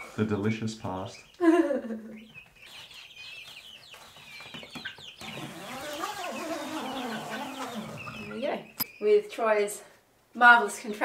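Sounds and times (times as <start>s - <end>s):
chicks peeping and clucking: 0.0s - 9.7s.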